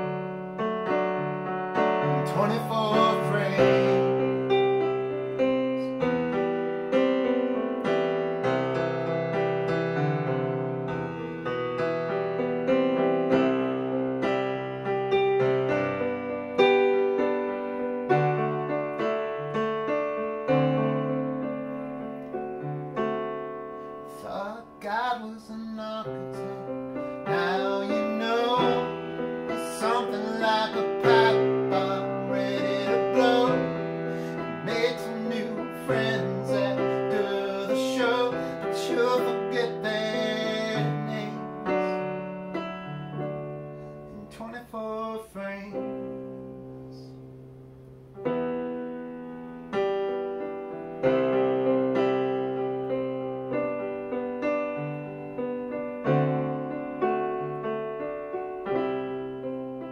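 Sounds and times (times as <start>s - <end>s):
digital piano chords and melody: 0.0s - 59.9s.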